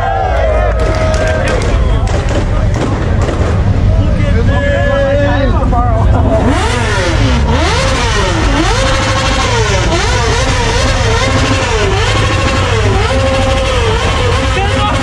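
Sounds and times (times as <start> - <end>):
heavy low rumble: 0.0 - 15.0
car engine revving: 0.9 - 15.0.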